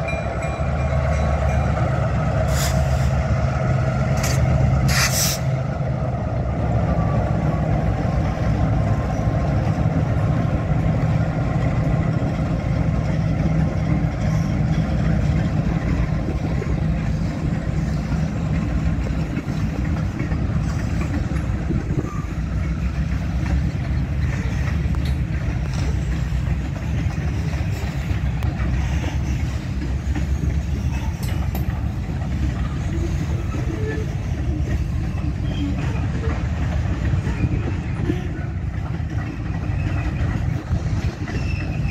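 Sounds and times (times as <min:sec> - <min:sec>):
diesel locomotive engines: 0:00.0 - 0:41.9
freight cars rumbling over rails: 0:00.0 - 0:41.9.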